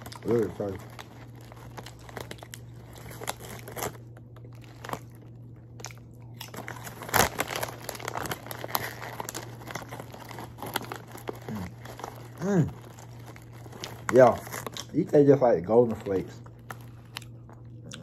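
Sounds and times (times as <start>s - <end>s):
chip bag crinkling: 0.0s - 18.0s
chips crunching: 0.0s - 18.0s.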